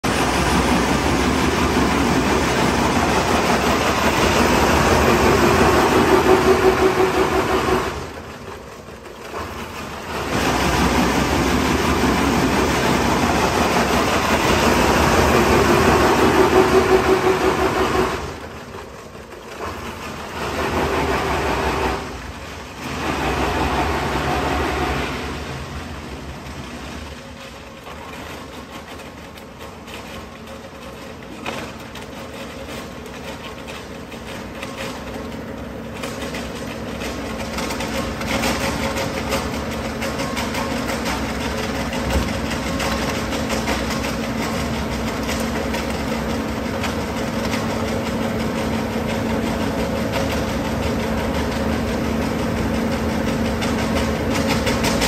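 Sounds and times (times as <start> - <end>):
shredder grinding plastic pipes: 0.0 - 55.0.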